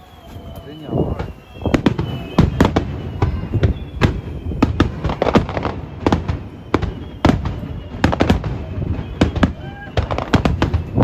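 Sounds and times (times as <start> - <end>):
fireworks bangs echoing: 0.0 - 11.0.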